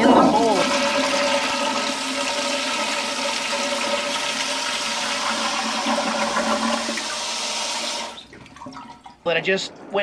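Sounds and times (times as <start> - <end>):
toilet flushing water rushing: 0.0 - 9.2.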